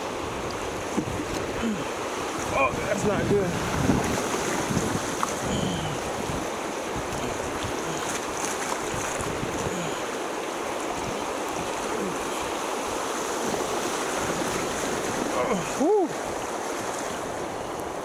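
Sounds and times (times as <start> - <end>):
whitewater rapids rushing: 0.0 - 18.0.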